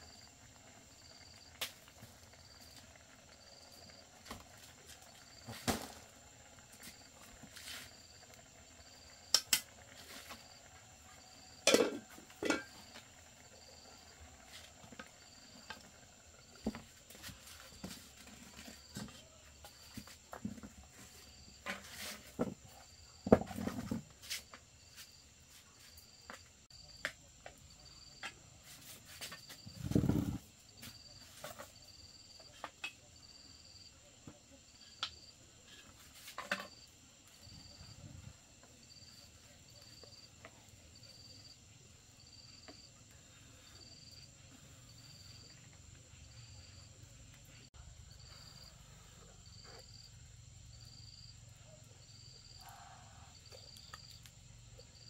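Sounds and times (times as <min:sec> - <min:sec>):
cricket chirping: 0:00.0 - 0:06.1, 0:06.8 - 0:55.0.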